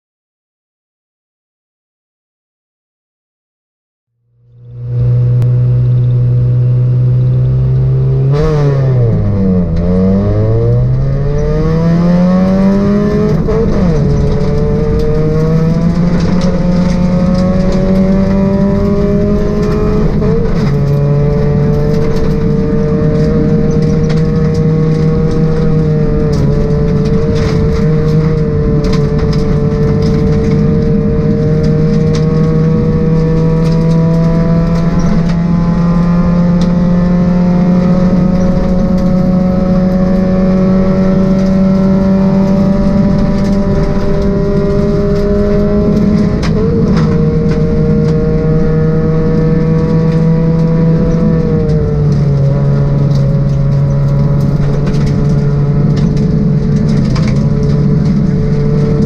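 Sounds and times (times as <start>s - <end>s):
car engine revving hard: 4.6s - 59.0s.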